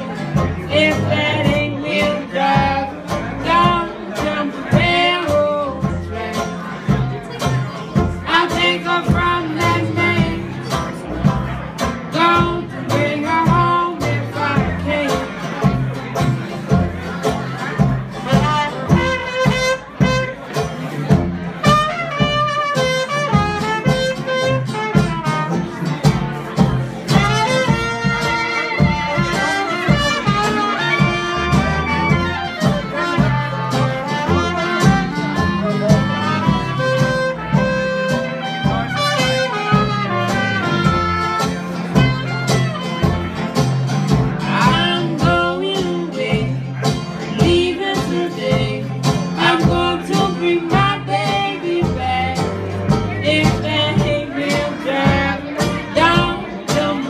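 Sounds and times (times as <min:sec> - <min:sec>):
jazz band playing blues: 0:00.0 - 0:57.0.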